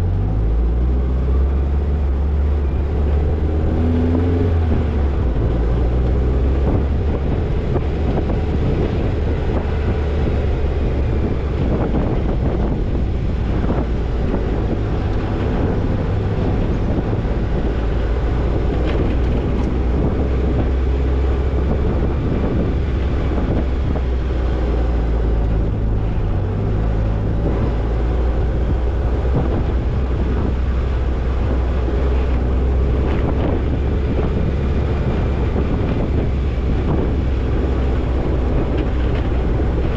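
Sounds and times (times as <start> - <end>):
car engine and road drone: 0.0 - 39.9
wind on microphone: 0.0 - 39.9.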